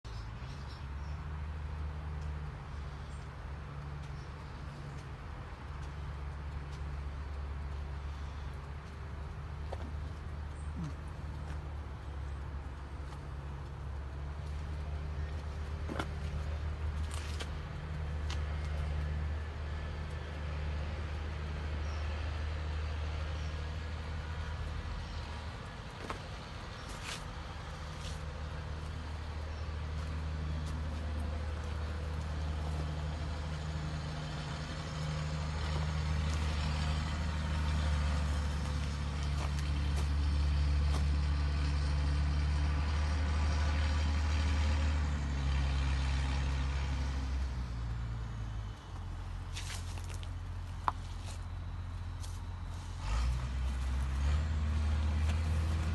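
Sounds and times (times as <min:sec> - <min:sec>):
tractor diesel engine running: 0:00.1 - 0:55.9.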